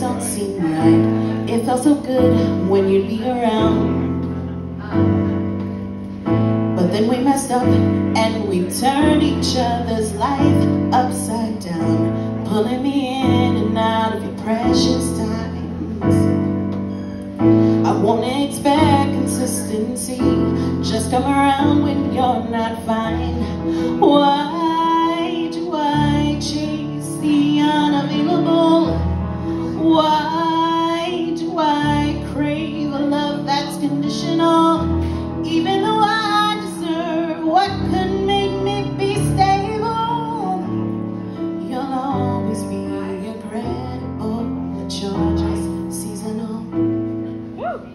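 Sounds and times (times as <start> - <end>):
digital piano sustained chords: 0.0 - 47.9
woman singing into microphone: 0.0 - 47.9.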